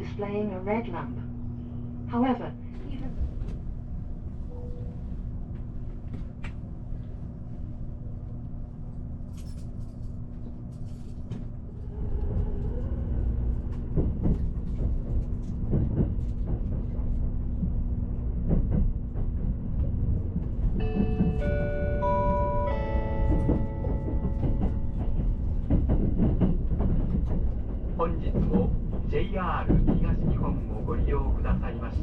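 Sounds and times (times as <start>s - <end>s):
train hum and rumble: 0.0s - 32.0s.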